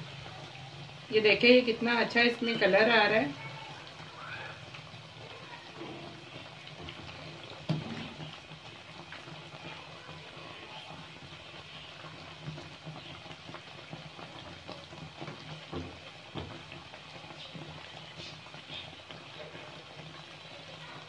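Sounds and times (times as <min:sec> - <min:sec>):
bread deep-frying with crackles: 0:00.0 - 0:21.0.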